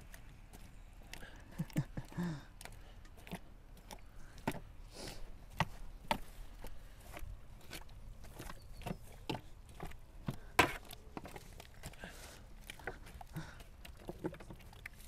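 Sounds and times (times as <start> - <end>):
animal gnawing bone: 0.0 - 15.0.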